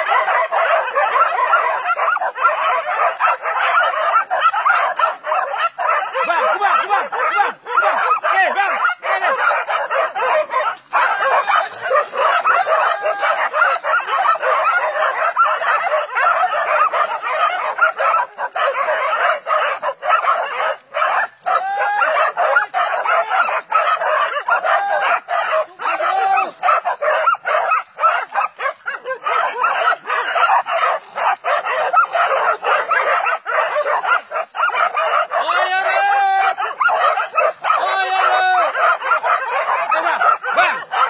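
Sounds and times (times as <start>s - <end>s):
dogs barking and yelping: 0.0s - 41.0s.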